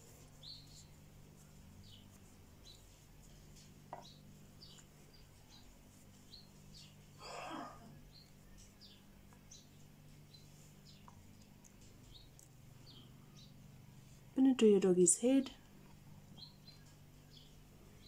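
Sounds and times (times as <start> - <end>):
small bird chirping: 0.0 - 7.2, 7.8 - 14.2, 14.8 - 18.0
low steady hum: 0.0 - 18.0.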